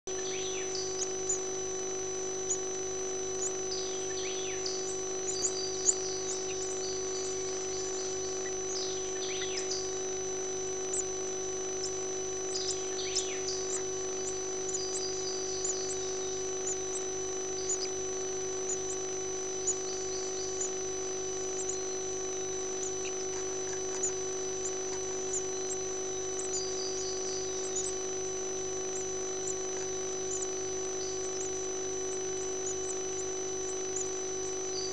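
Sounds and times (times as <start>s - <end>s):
nestlings begging peeps: 0.1s - 34.9s
steady electrical hum: 0.1s - 34.9s.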